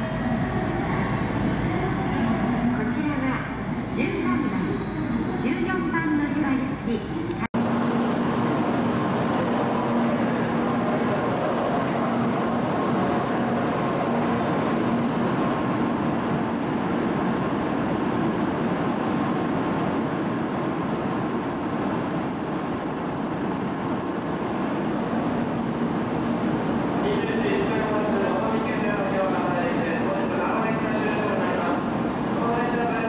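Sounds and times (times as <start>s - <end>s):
train equipment hum: 0.0s - 33.0s.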